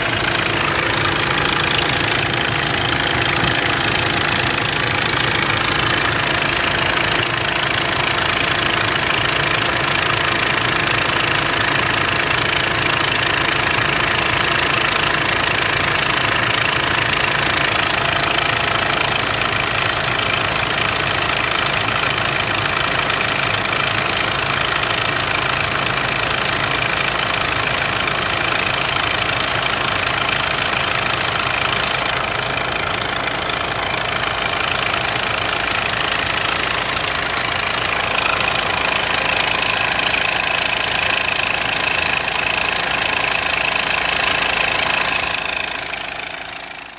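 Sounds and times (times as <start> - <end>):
diesel engine idling with rattle: 0.0 - 46.9.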